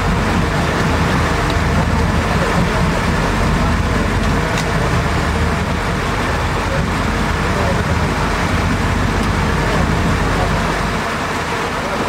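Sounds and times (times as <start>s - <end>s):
boat engine drone: 0.0s - 12.0s
wind and water rushing: 0.0s - 12.0s.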